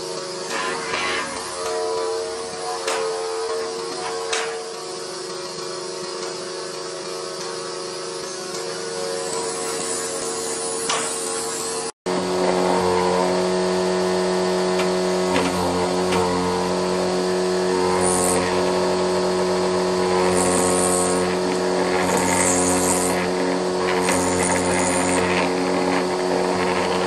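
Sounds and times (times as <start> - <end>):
cutter hissing through wood: 0.0 - 27.0
woodworking machine humming: 0.0 - 27.0.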